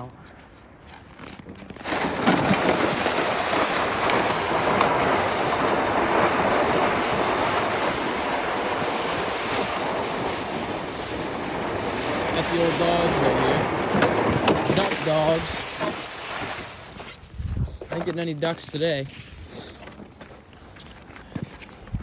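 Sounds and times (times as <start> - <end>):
wind buffeting microphone: 1.8 - 20.3, 20.9 - 22.0.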